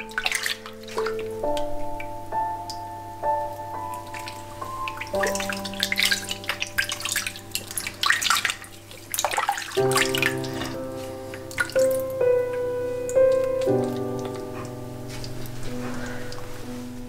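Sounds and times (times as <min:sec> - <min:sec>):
water splashing in a sink: 0:00.0 - 0:02.8, 0:03.8 - 0:12.4, 0:13.1 - 0:16.7
soft background music: 0:00.0 - 0:17.0.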